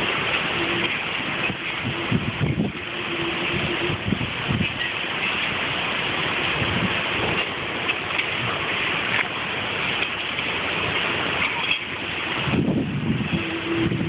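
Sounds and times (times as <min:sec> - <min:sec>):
wind buffeting microphone: 0:00.0 - 0:14.0
wind rushing through trees: 0:00.0 - 0:14.0.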